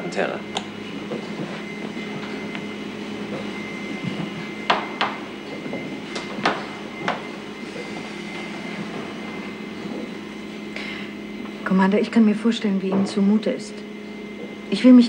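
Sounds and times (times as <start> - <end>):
steady electronic hum: 0.0 - 15.0.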